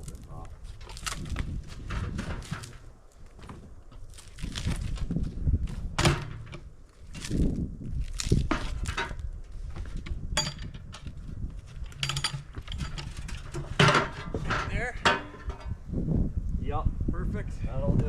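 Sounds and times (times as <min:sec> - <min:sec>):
log knocking and scraping: 0:00.0 - 0:15.9.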